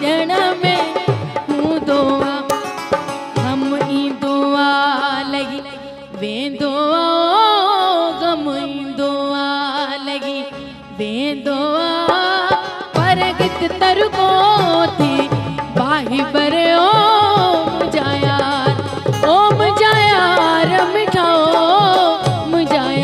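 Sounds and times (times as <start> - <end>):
musical accompaniment: 0.0 - 6.9, 9.9 - 23.0
woman singing into microphone: 0.0 - 23.0.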